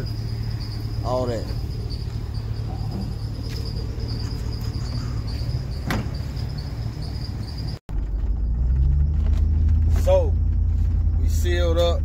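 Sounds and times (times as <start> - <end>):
high-pitched insect song: 0.0 - 12.0
low outdoor rumble: 0.0 - 12.0
vehicle engine running: 0.0 - 12.0.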